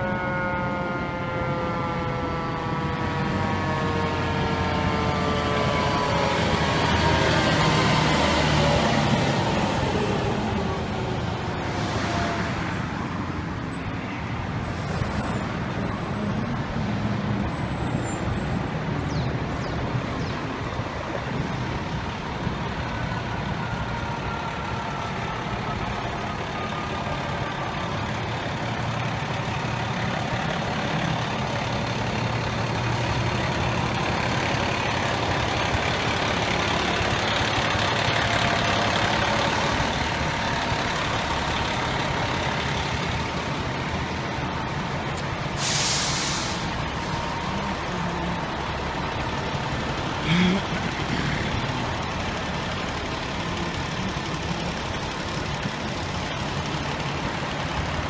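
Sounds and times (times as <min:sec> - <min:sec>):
fire truck siren wailing: 0:00.0 - 0:58.0
heavy truck engines rumbling: 0:00.0 - 0:58.0
street traffic: 0:00.0 - 0:58.0.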